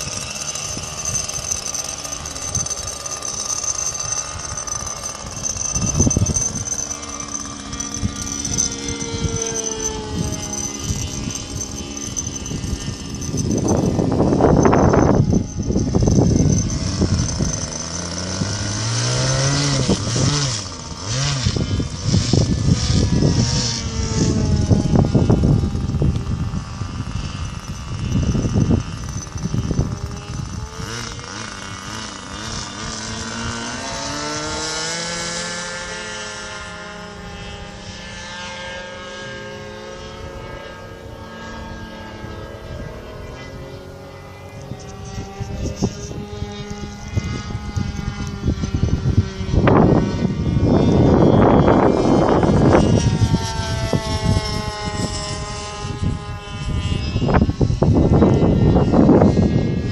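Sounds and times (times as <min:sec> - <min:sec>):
wind buffeting microphone: 0:00.0 - 0:34.7, 0:40.0 - 0:59.9
model airplane engine buzzing: 0:00.0 - 0:59.9.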